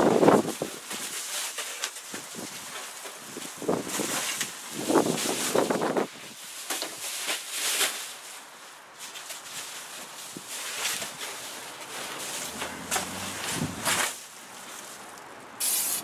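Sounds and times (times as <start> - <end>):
foil insulation rustling and crinkling: 0.0 - 16.0.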